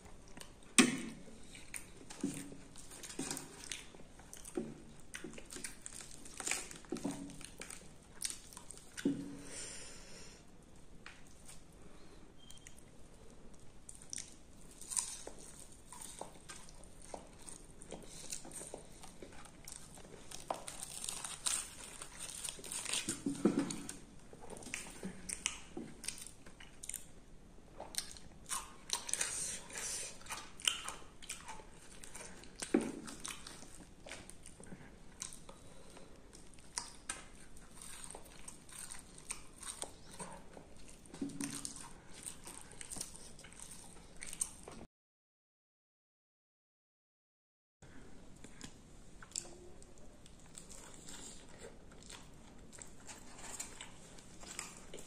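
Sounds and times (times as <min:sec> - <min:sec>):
person chewing close up: 0:00.0 - 0:09.4, 0:12.4 - 0:44.8, 0:48.4 - 0:55.0.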